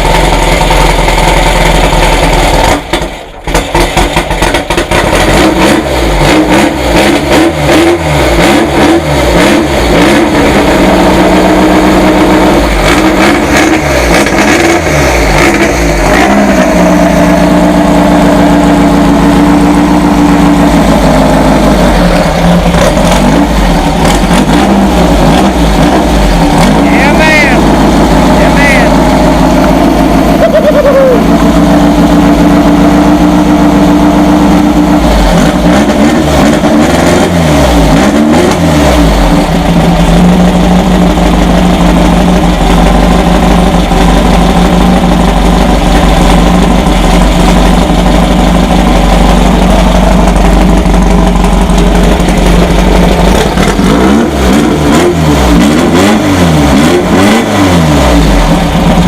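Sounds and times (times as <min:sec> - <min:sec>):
car engine running and revving: 0:00.0 - 0:59.0.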